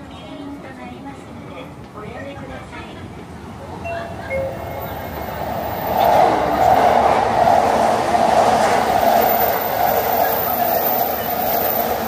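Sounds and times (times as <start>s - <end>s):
electric train rumbling on rails: 0.1s - 12.0s.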